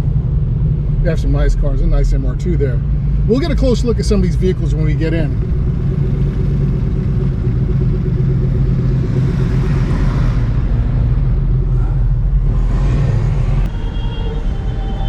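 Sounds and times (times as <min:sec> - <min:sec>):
car engine running: 0:00.0 - 0:13.8.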